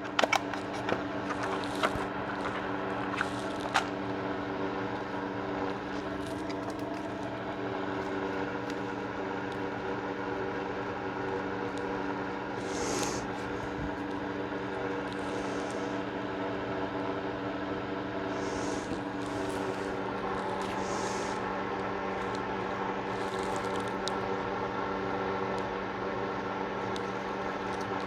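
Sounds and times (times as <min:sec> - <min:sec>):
machine hum: 0:00.0 - 0:24.5.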